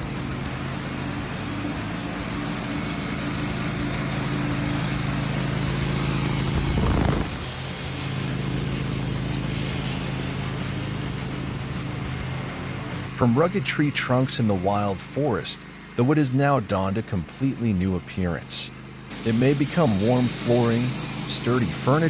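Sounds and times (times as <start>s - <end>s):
sawmill machinery hum and whine: 0.0s - 22.0s.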